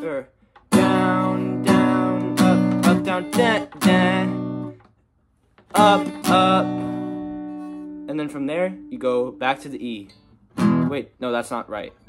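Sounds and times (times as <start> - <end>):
acoustic guitar strumming: 0.4 - 4.9, 5.6 - 11.1.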